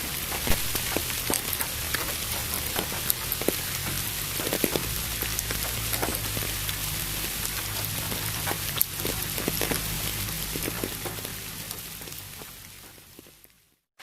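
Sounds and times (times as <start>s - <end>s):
raindrops ticking: 0.0s - 13.6s
pink noise hiss: 0.0s - 13.8s
steady rain: 0.0s - 13.8s.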